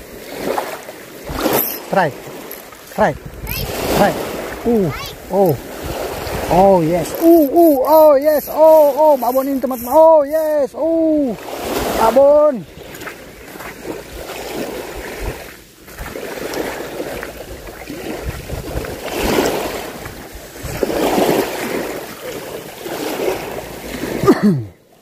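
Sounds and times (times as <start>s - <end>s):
wind rumbling on microphone: 0.0s - 24.1s
small waves washing on shore: 0.0s - 25.0s.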